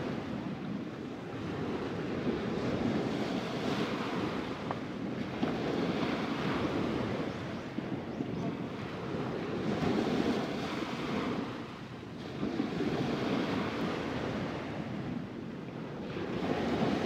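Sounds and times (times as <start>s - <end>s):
surf washing onto beach: 0.0s - 8.0s, 8.6s - 17.0s
wind buffeting microphone: 0.0s - 17.0s.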